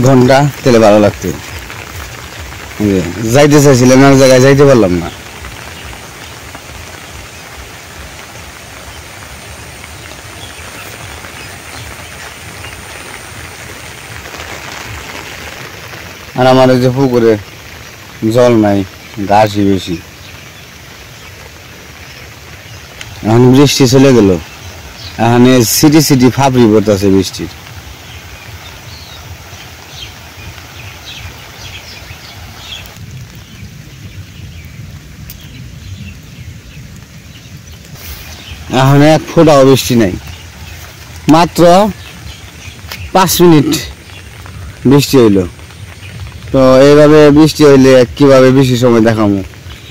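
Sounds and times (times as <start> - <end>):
light drizzle: 0.0 - 49.9
rain falling: 0.0 - 49.9
small birds chirping: 0.0 - 49.9.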